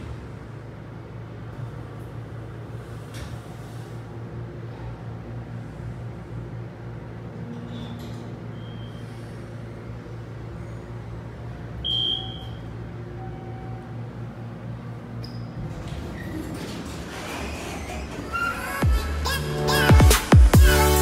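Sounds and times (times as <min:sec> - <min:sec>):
elevator car humming: 0:00.0 - 0:20.0.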